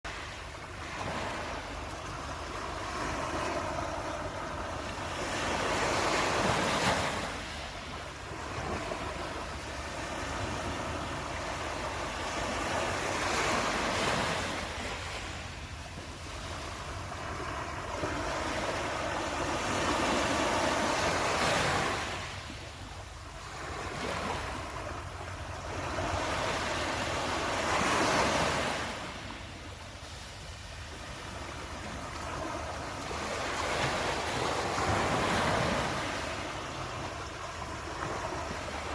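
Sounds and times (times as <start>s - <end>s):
ocean waves rolling in: 0.1s - 38.9s.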